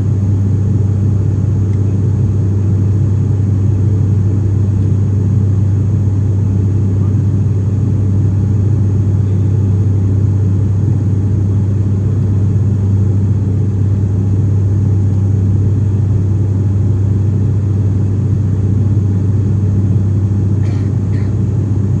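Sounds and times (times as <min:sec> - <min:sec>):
turboprop drone in cabin: 0:00.0 - 0:22.0.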